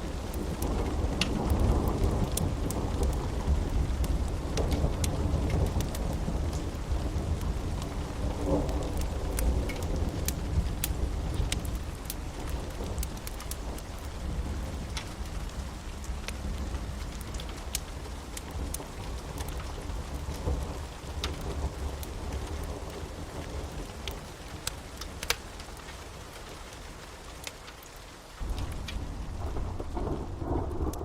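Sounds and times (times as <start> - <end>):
rain drops ticking: 0.0 - 31.0
steady rain: 0.0 - 31.0
deep thunder rumble: 0.1 - 24.1, 28.4 - 31.0.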